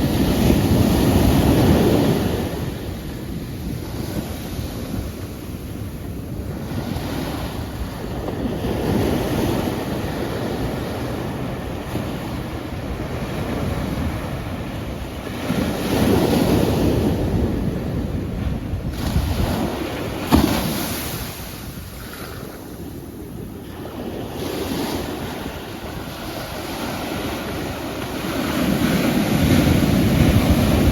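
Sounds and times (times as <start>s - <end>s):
ocean waves breaking on shore: 0.0s - 30.9s.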